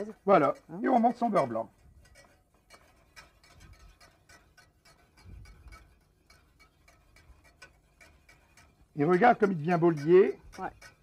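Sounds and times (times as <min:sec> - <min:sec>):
wire whisk ticking against saucepan: 0:00.0 - 0:11.0.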